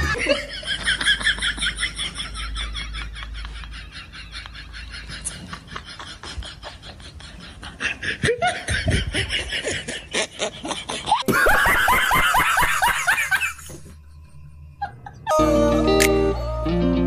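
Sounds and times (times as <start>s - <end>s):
young women laughing: 0.0s - 15.4s.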